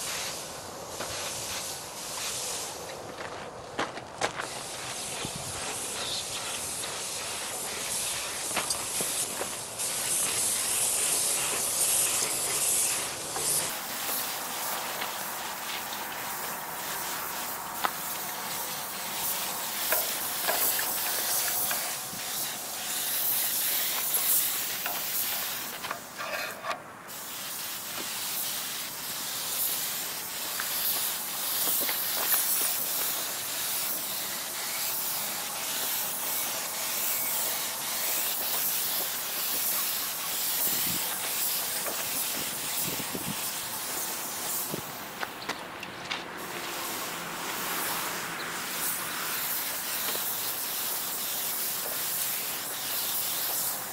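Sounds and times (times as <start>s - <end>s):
spray gun hissing: 0.0s - 3.3s, 4.3s - 45.4s, 46.3s - 53.9s.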